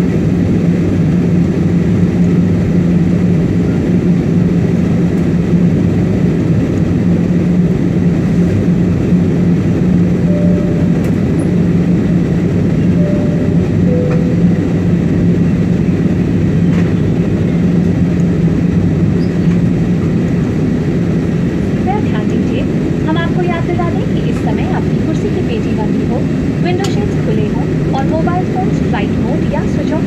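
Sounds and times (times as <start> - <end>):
jet engines and airflow rushing: 0.0 - 30.0
steady low hum: 0.0 - 30.0.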